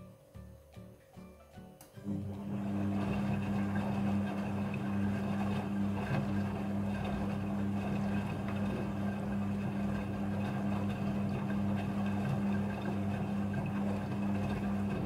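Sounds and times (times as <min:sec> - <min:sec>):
washing machine running: 0:02.0 - 0:15.0.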